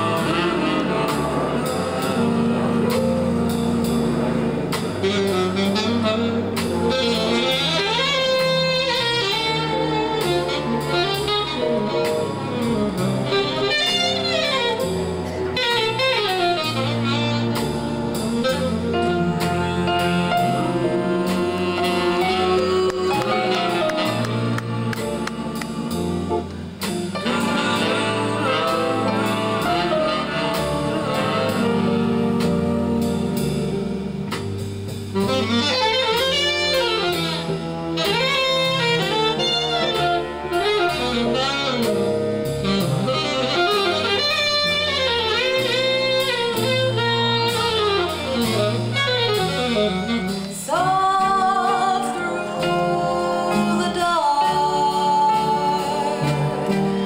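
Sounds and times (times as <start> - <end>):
big band jazz: 0.0 - 57.0.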